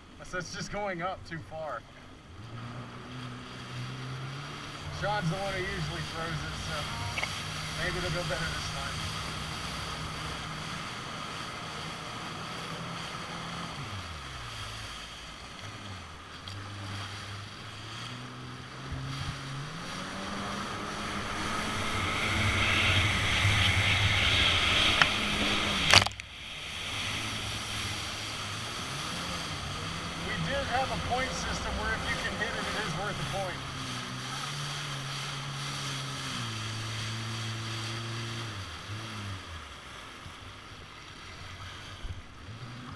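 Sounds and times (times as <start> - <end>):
jet ski engine running: 0.0 - 42.9.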